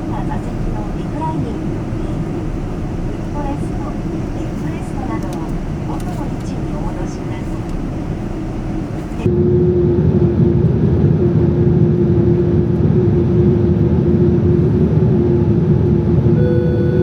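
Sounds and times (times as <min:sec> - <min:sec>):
airplane cabin engine rumble: 0:00.0 - 0:17.0
constant low hum: 0:00.0 - 0:17.0.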